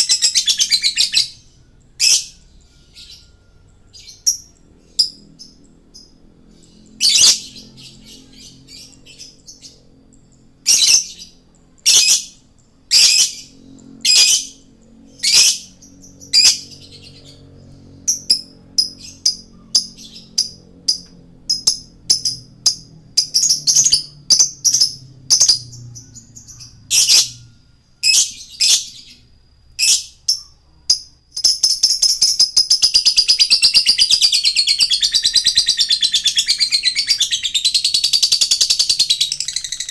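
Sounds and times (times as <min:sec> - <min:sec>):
lovebird chirping and trilling: 0:00.0 - 0:39.9.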